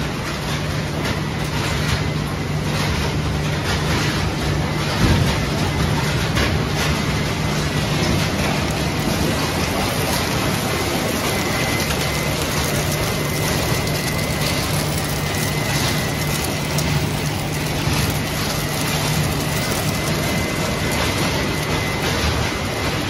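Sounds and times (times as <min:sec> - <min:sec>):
machinery low hum: 0:00.0 - 0:23.0.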